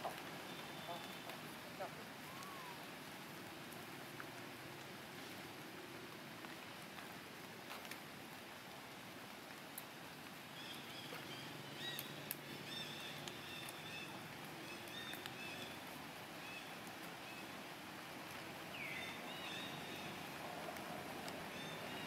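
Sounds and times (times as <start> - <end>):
faint outdoor hiss: 0.0 - 22.0.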